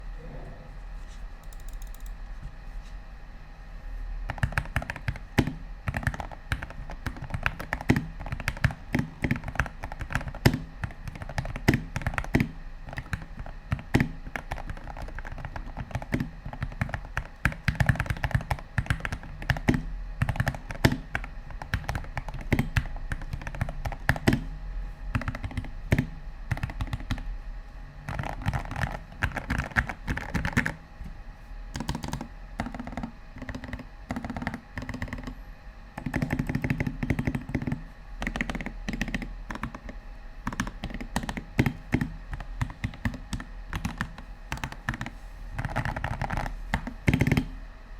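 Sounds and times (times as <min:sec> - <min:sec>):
faint low hum: 0:00.0 - 0:47.9
fast typing on mechanical keyboard: 0:01.5 - 0:02.2, 0:04.3 - 0:24.5, 0:25.1 - 0:27.3, 0:28.0 - 0:30.8, 0:31.7 - 0:35.4, 0:36.0 - 0:47.5.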